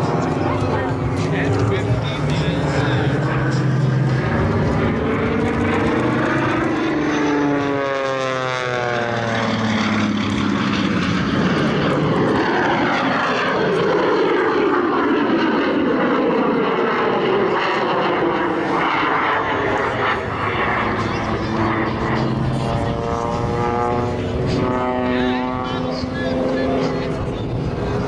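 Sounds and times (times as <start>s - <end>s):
jet engine rushing: 0.0s - 28.0s
propeller plane engine drone: 0.0s - 28.0s.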